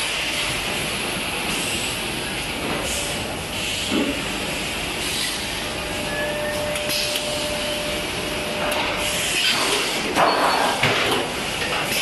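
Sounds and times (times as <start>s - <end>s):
hissing sheet-metal forming machine: 0.0s - 12.0s.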